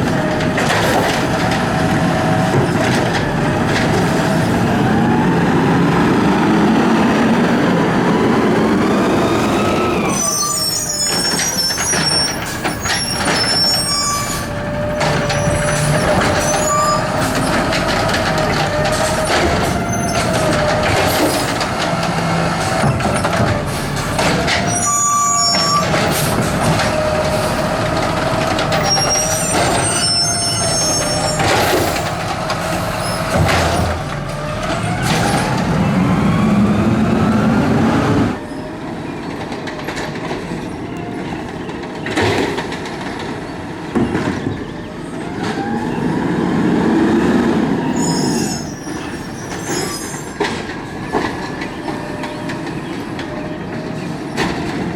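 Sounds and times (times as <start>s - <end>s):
garbage truck machinery whining: 0.0s - 54.9s
brake squeals: 7.7s - 54.9s.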